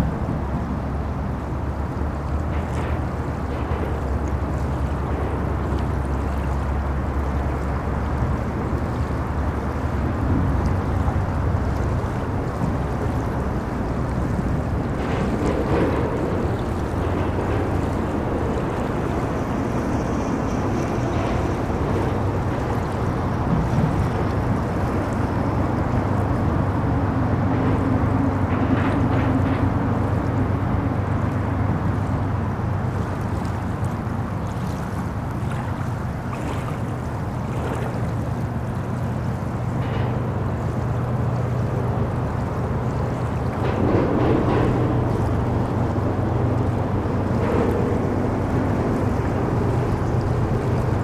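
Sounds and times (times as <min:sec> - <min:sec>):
low rumble of road traffic: 0:00.0 - 0:51.0
river water flowing: 0:00.0 - 0:51.0.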